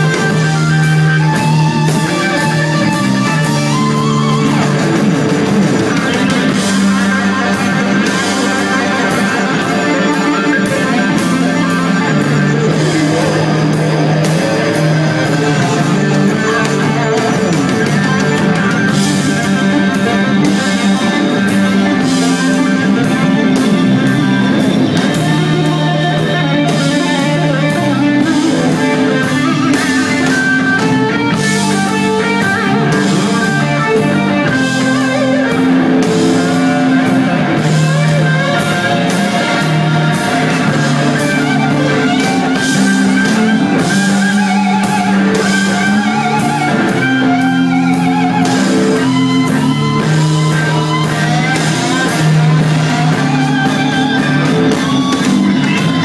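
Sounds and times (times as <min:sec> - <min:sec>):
bass notes: 0:00.0 - 0:56.0
drums: 0:00.0 - 0:56.0
electric guitar lead lines: 0:00.0 - 0:56.0
keyboards: 0:00.0 - 0:56.0.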